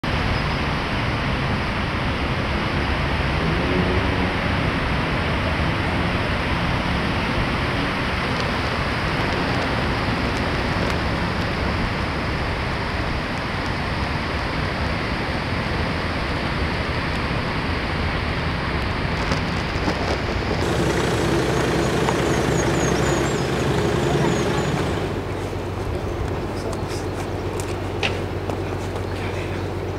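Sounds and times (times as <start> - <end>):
passing cars: 0.0 - 29.9.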